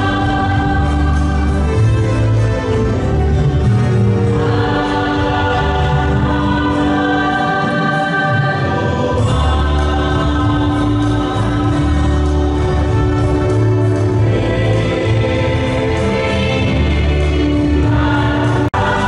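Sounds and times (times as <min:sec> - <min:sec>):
congregation and choir singing a hymn: 0:00.0 - 0:19.0.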